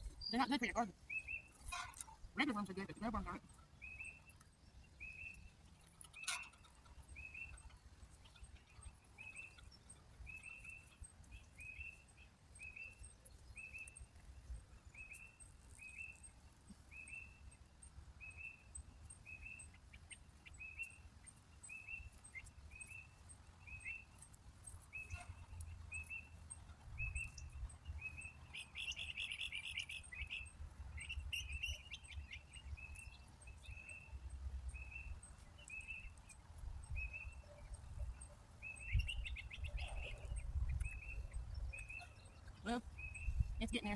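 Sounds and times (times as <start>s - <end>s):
small bird chirping: 0.0s - 43.9s.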